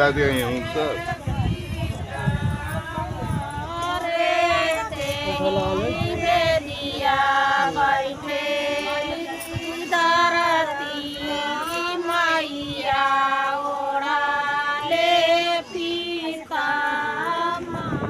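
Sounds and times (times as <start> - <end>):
women singing devotional song: 0.0 - 18.0.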